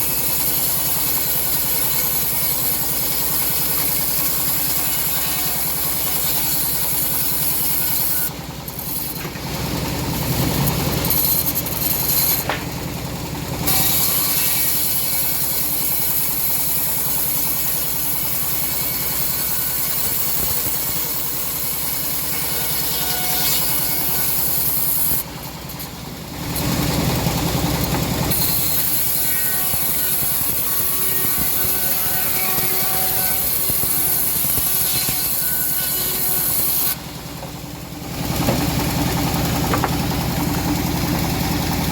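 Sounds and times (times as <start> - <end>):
bandsaw machine hum: 0.0 - 41.9
saw blade cutting wood: 0.0 - 41.9.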